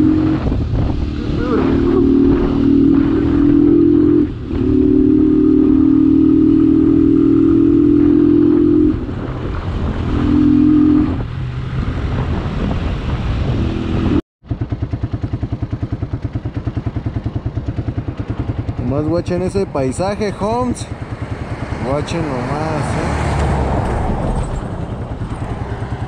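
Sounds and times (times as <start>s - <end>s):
evenly pulsing engine: 0.0s - 26.0s
motorcycle engine running: 0.0s - 26.0s.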